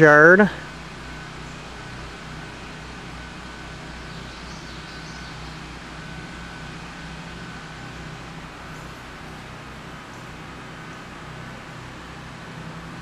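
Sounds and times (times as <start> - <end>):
generators humming: 0.0 - 13.0.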